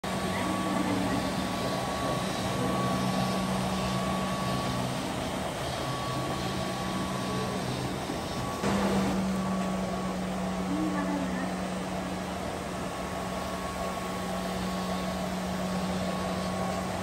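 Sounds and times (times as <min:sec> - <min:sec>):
floor scrubbing robot motor hum: 0:00.0 - 0:17.0.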